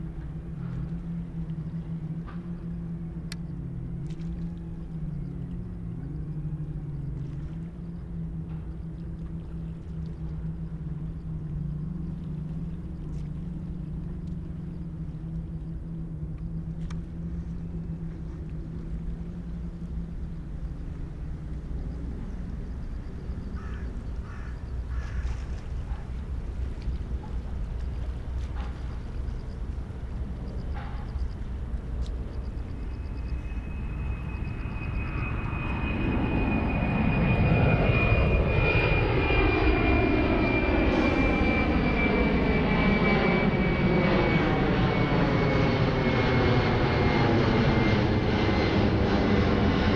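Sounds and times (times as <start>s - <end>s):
distant jet engines droning: 0.0s - 49.9s.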